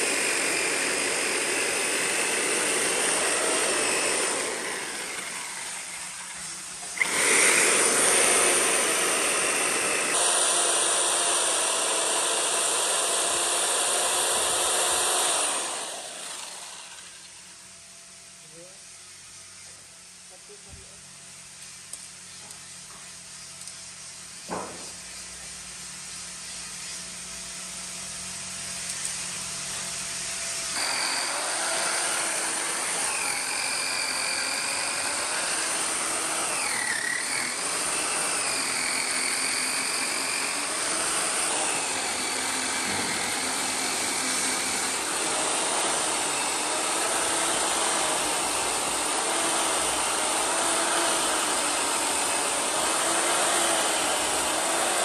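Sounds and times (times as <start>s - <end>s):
power tool motor running: 0.0s - 17.7s, 27.0s - 55.0s.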